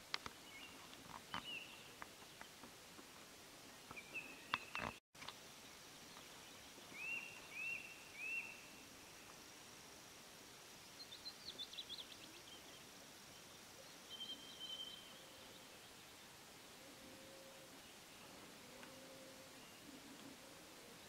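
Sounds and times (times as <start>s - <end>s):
faint birdsong: 0.3s - 9.6s, 10.5s - 21.0s.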